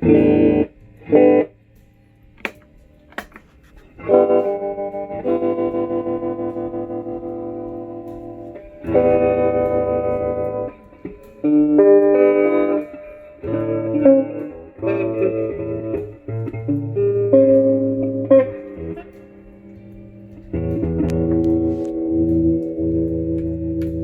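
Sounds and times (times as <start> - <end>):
electric guitar chords ringing: 0.0 - 24.0.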